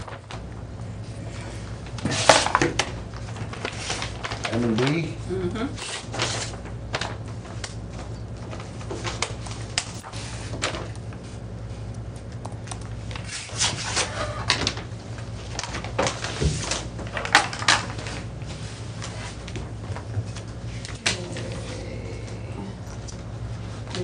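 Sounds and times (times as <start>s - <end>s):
paper rustling: 0.0s - 5.2s, 5.8s - 21.9s
steady low hum: 0.0s - 24.0s.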